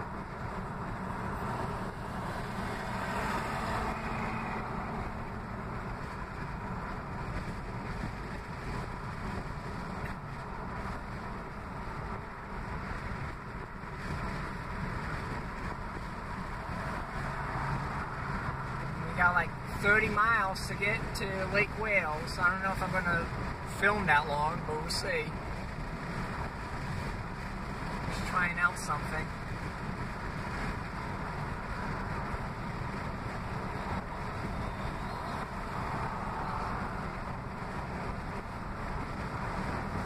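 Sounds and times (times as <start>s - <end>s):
road and engine noise: 0.0s - 40.0s.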